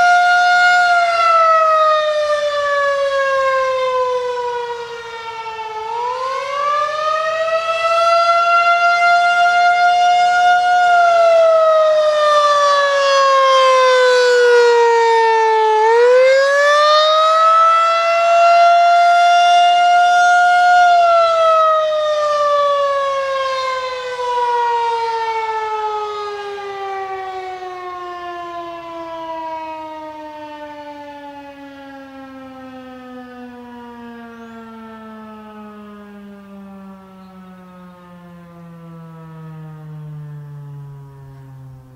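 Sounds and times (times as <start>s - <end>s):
wailing warning siren: 0.0s - 41.9s.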